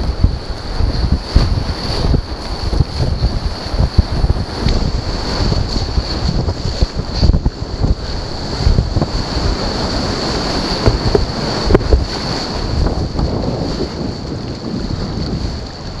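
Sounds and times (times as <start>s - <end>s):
whitewater rushing: 0.0s - 16.0s
wind buffeting microphone: 0.0s - 16.0s.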